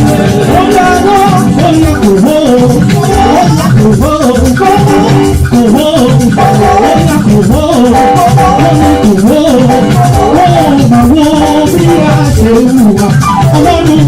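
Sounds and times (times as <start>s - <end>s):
loud music with singing: 0.0s - 14.0s
person singing: 0.0s - 14.0s
shaker rattling: 0.0s - 14.0s.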